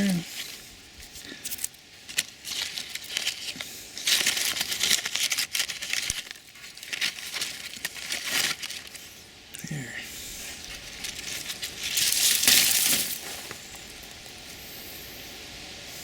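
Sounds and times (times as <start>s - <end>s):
leafy branches rustling: 0.0s - 16.0s.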